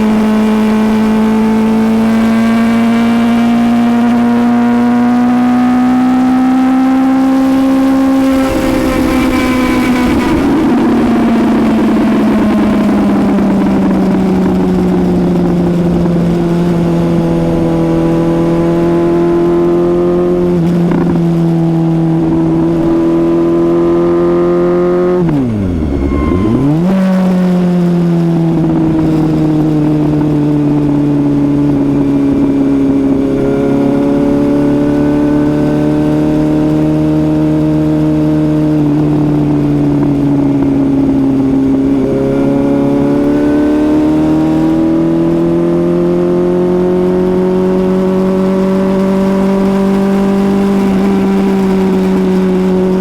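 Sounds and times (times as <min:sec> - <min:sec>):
motorcycle engine cruising: 0:00.0 - 0:53.0.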